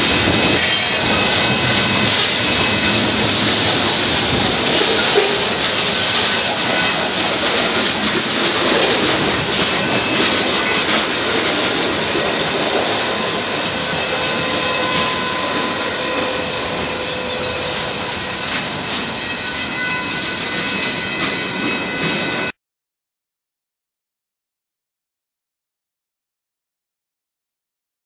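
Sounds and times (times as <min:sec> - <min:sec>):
freight train wheels on rails: 0:00.0 - 0:22.6.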